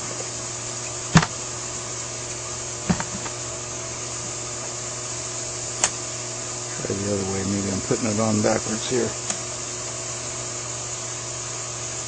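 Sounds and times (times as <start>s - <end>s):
steady hum and hiss: 0.0s - 12.0s.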